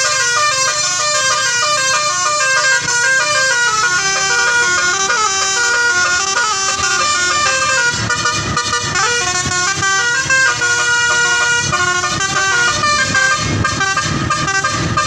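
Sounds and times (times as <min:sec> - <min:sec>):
bus air horns playing tune: 0:00.0 - 0:15.0.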